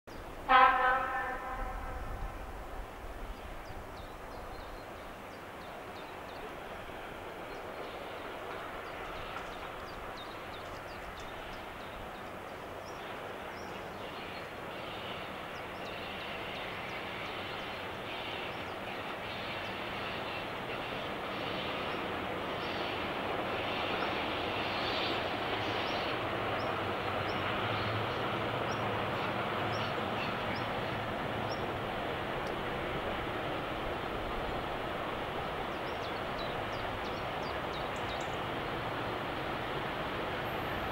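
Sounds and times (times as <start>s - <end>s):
diesel locomotive engine drone: 0.1s - 40.9s.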